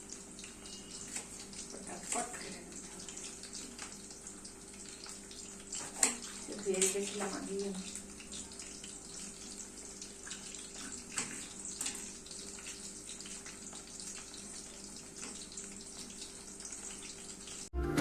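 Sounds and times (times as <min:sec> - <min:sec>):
tap water running into sink: 0:00.0 - 0:17.7.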